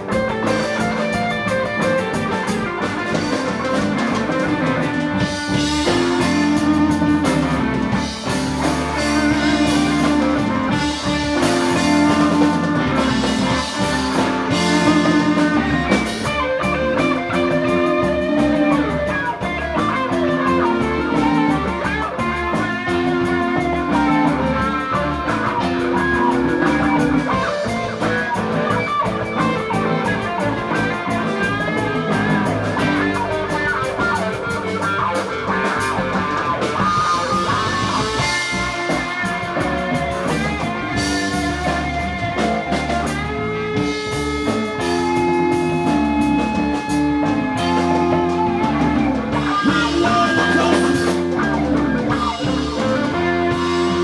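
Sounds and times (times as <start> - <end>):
bass: 0.0 - 54.0
drums: 0.0 - 54.0
electric guitar line: 0.0 - 54.0
keyboard: 0.0 - 54.0.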